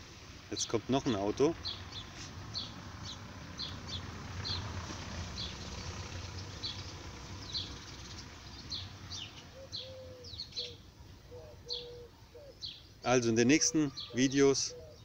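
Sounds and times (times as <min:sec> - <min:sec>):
car passing: 0:00.0 - 0:14.8.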